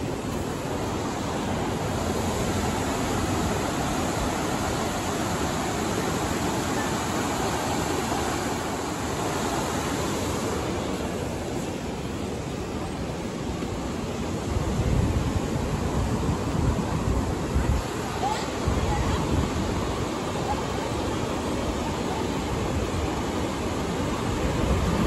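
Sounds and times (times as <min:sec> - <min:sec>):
rushing wind: 0:00.0 - 0:25.0.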